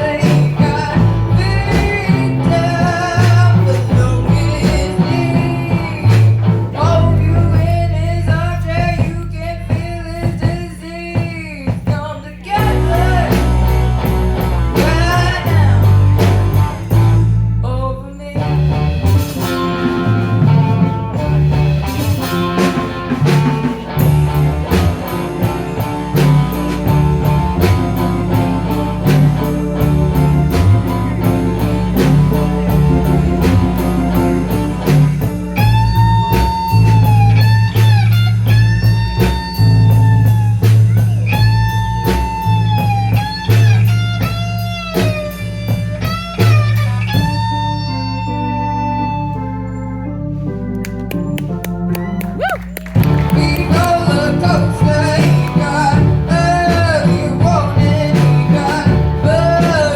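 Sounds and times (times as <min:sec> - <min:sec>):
bending lead guitar notes: 0:00.0 - 0:10.6, 0:12.5 - 0:59.9
live rock band playing: 0:00.0 - 0:59.9.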